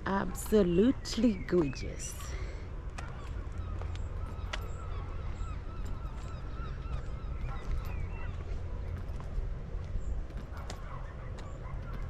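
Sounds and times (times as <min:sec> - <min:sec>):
birds calling: 0:00.0 - 0:12.0
steady low rumble: 0:00.0 - 0:12.0.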